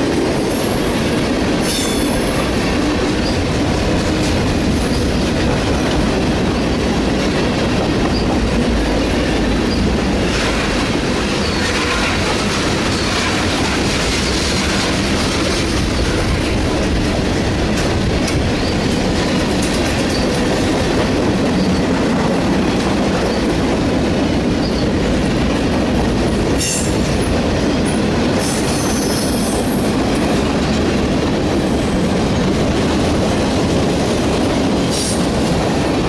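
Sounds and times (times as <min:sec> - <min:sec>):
train wheels rumbling and clacking: 0:00.0 - 0:36.0.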